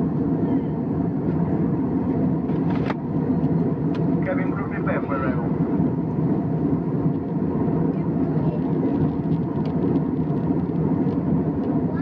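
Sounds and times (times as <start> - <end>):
airliner engine and airflow noise: 0.0 - 12.0.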